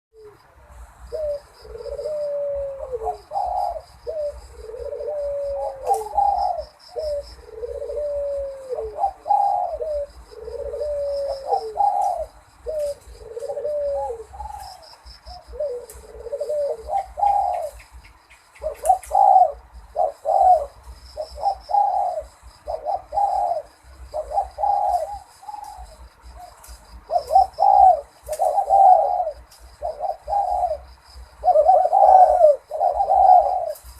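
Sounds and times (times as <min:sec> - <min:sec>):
dove cooing: 0:00.2 - 0:33.9
faint high bird chirping: 0:01.1 - 0:33.9.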